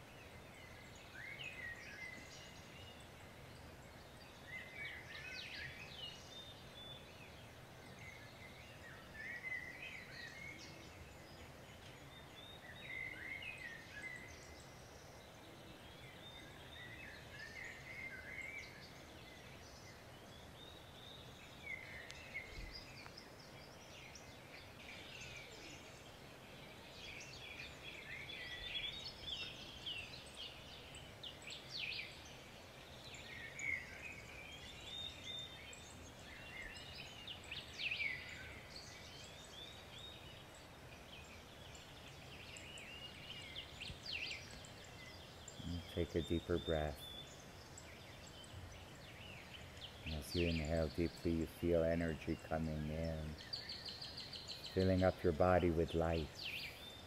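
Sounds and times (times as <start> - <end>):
faint birds chirping: 0.0 - 57.0
low background hiss: 0.0 - 57.0.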